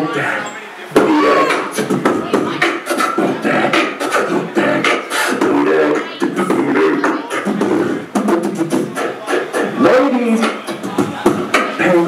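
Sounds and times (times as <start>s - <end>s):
beatboxing into microphone: 0.0s - 12.0s.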